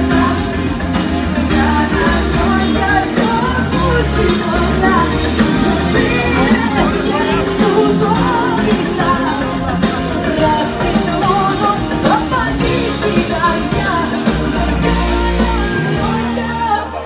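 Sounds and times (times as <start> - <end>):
band with drums and bass: 0.0 - 17.0
woman singing into a microphone: 0.0 - 17.0.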